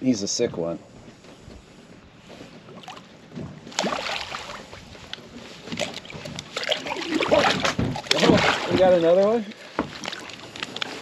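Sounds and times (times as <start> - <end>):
water splashing and sloshing: 0.3 - 11.0.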